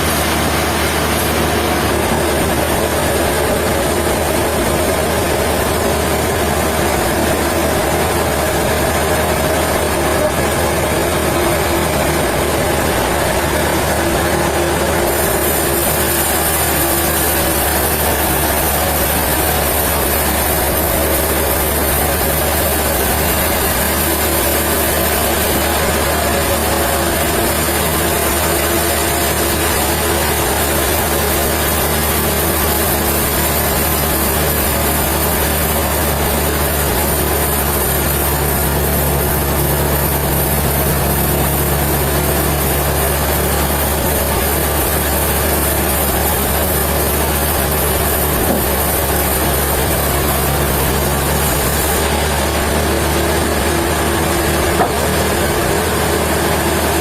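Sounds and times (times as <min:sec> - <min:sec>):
deep engine hum: 0:00.0 - 0:57.0
sawmill machinery running: 0:00.0 - 0:57.0.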